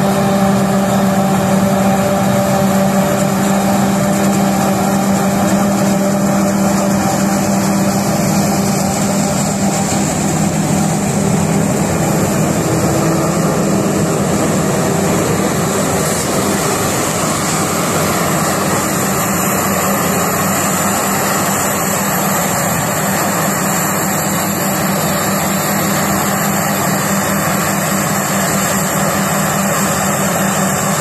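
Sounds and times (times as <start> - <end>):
heavy farm machinery engine drone: 0.0 - 31.0.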